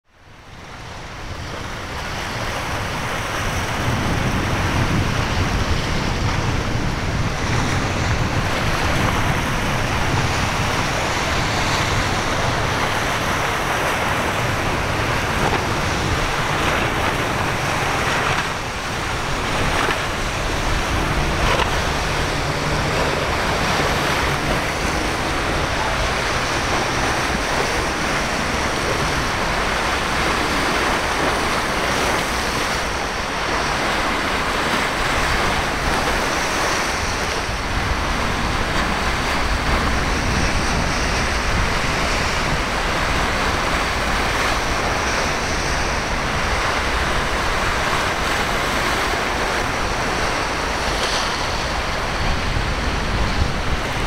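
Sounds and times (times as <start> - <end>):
ocean waves breaking: 0.1 - 54.0
outboard boat engines droning: 0.1 - 54.0
wind buffeting microphone: 0.2 - 54.0.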